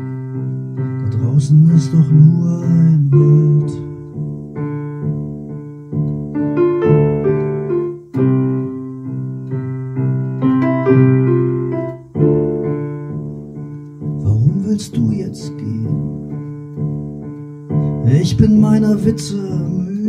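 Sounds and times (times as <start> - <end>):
electronic keyboard piano chords: 0.0 - 20.0.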